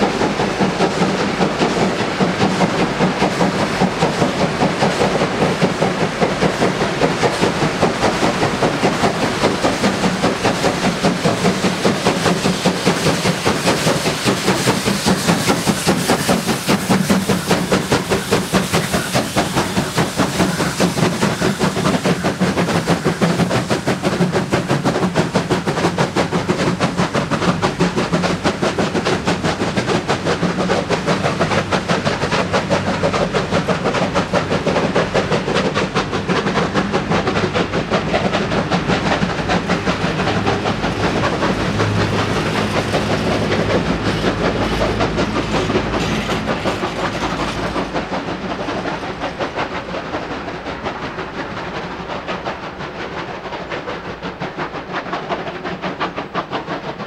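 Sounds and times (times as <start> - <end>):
steam locomotive exhaust beating: 0.0 - 57.0
train wheels clicking over rails: 0.0 - 57.0.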